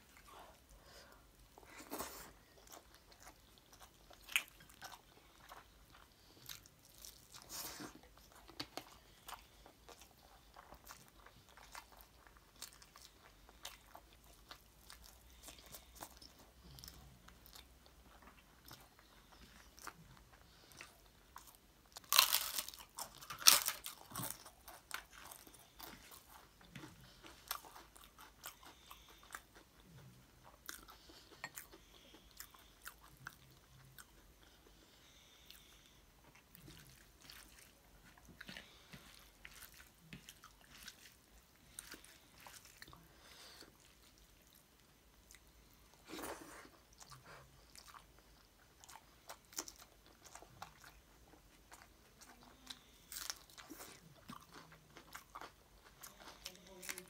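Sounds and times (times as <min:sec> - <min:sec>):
chewing food: 0:00.0 - 0:57.0.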